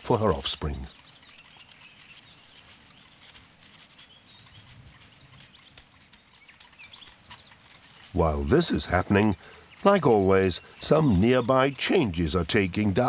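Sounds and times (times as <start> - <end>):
faint high bird chirps: 0.0 - 13.0
soft reed rustling: 0.0 - 13.0.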